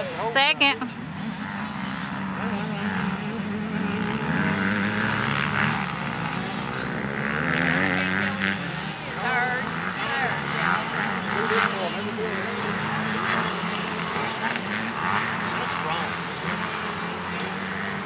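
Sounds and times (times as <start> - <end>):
motocross bike engines revving: 0.0 - 18.0.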